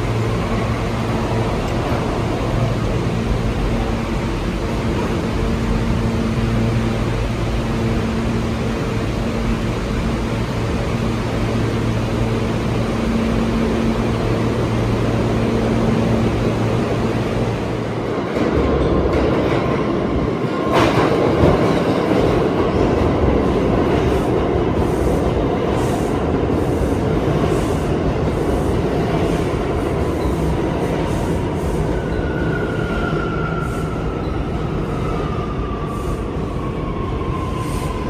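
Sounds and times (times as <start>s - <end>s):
subway train wheel clatter: 0.0s - 38.0s.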